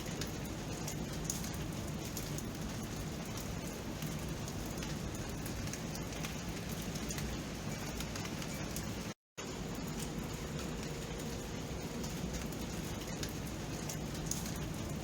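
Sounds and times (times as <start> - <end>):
raindrops tapping on surfaces: 0.0 - 15.0
steady rain hiss: 0.0 - 15.0.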